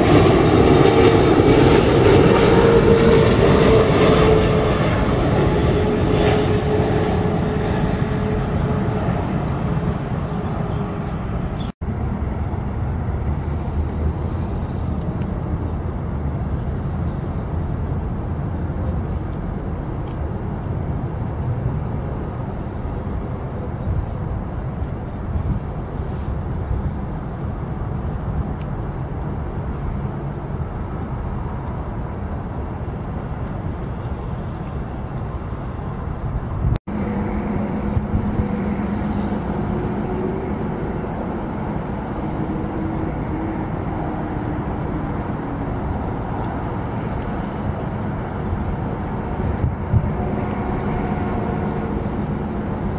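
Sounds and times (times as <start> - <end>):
distant jet engine rumble: 0.0 - 52.9
jet airliner passing: 0.0 - 52.9.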